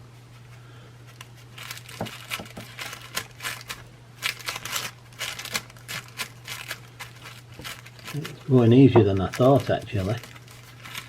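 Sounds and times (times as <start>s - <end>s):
steady low hum: 0.0s - 11.0s
gold leaf crinkling when rubbed: 0.3s - 11.0s.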